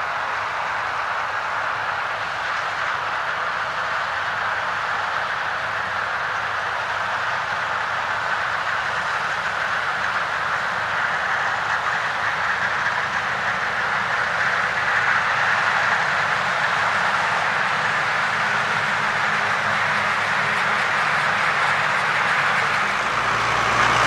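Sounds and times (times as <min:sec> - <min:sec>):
tractor running: 0:00.0 - 0:24.0.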